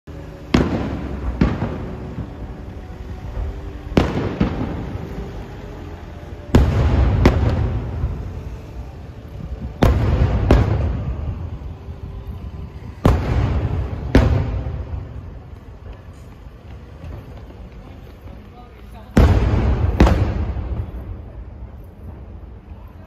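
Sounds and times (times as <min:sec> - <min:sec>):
firework bangs: 0:00.1 - 0:17.9, 0:19.1 - 0:22.6.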